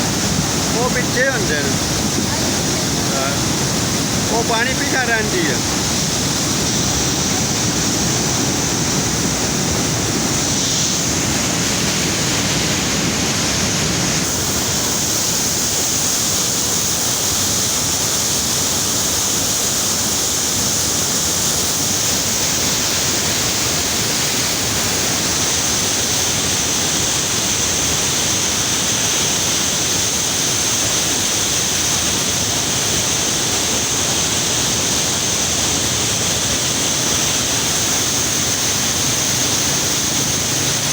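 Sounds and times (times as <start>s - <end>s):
water rushing through gates: 0.0s - 40.9s.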